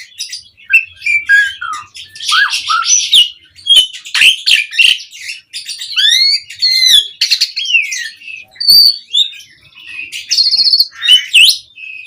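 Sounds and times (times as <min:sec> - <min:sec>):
starling singing: 0:00.0 - 0:12.0.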